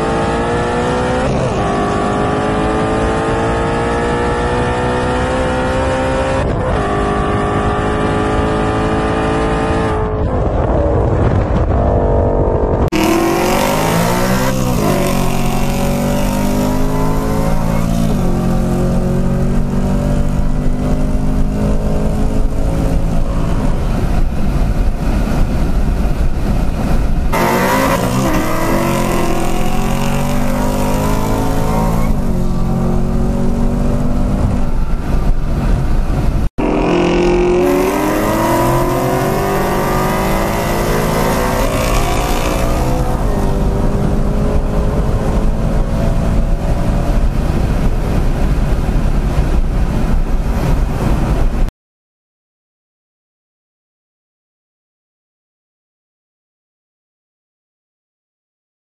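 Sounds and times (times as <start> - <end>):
car engine at full throttle: 0.0 - 51.7
wind and road noise: 0.0 - 51.7.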